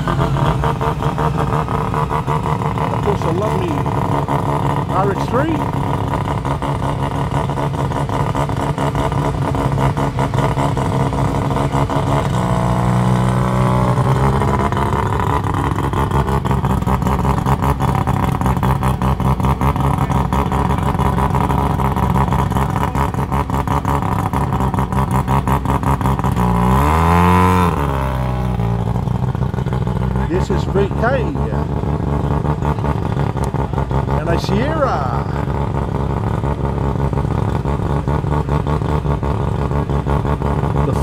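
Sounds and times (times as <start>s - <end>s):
rotary engine idling and revving: 0.0s - 41.0s.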